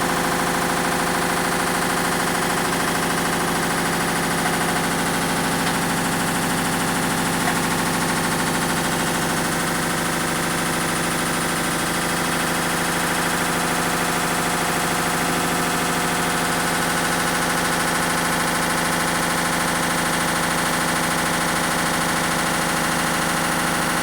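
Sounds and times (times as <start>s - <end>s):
washing machine spinning drone: 0.0s - 24.0s.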